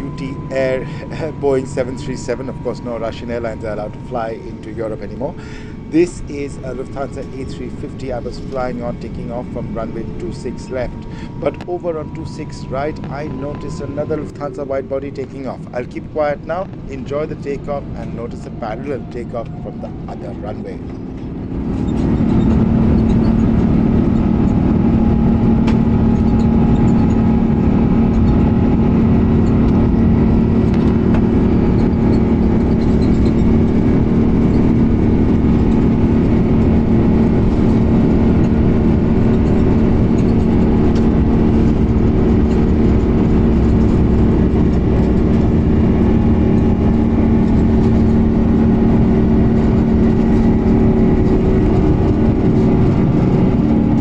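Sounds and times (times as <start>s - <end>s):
jet engines at takeoff thrust: 0.0s - 54.0s
low rumble of takeoff roll: 0.0s - 54.0s.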